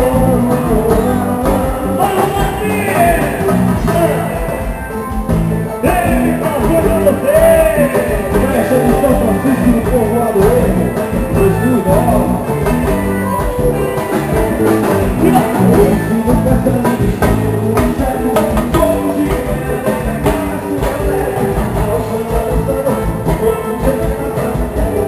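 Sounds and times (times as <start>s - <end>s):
plucked string melody: 0.0s - 25.0s
steady drum beat: 0.0s - 25.0s.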